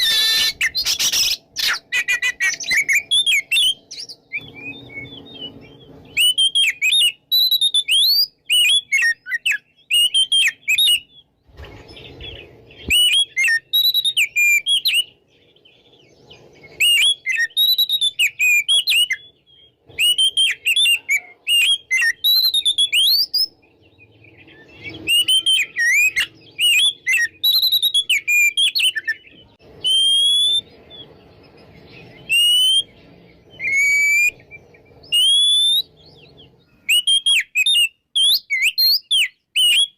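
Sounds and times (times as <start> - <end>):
bird singing whistled phrases: 0.0 - 11.3, 11.9 - 15.2, 16.0 - 39.9.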